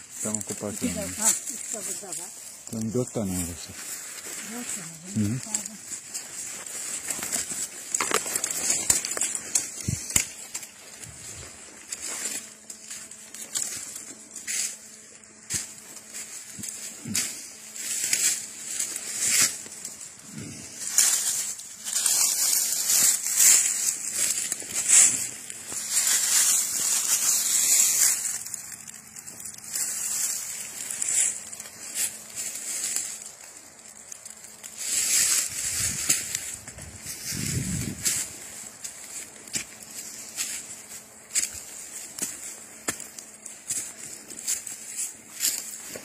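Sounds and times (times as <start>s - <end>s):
footsteps on dry leaves: 0.0s - 46.0s
hand rustling through leaves: 0.0s - 46.0s.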